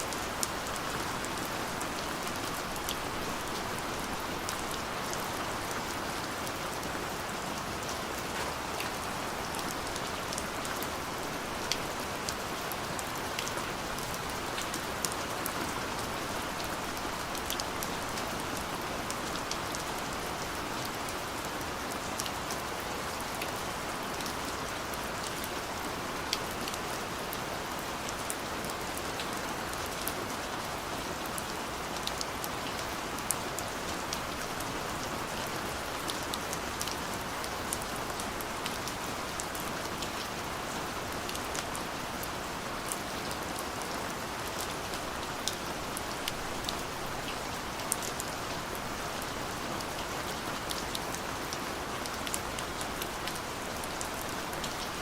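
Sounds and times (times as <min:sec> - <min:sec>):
steady rain falling: 0:00.0 - 0:55.0
raindrops ticking on hard surfaces: 0:00.1 - 0:55.0.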